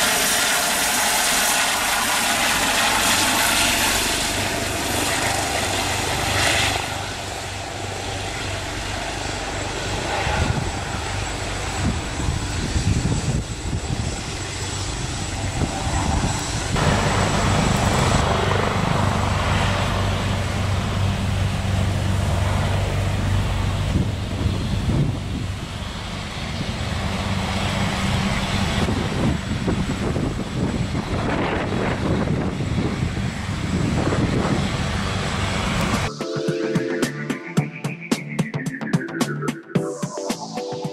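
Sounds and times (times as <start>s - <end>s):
helicopter flying away: 0.0s - 37.9s.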